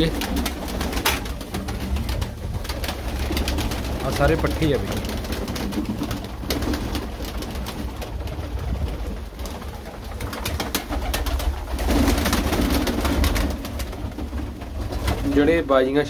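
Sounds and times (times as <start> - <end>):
pigeon wings flapping: 0.0 - 16.0
pigeons cooing: 0.0 - 16.0
pigeons pecking grain: 0.0 - 16.0.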